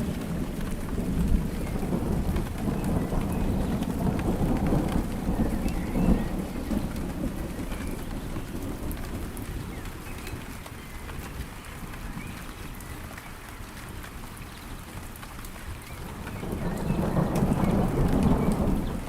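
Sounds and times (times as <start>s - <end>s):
heavy rain pouring: 0.0s - 19.0s
rain drop ticks: 0.0s - 19.0s.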